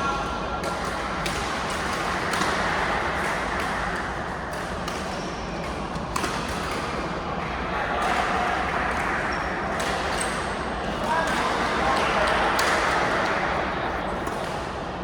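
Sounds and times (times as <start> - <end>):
hubbub of crowd and players: 0.0 - 15.0.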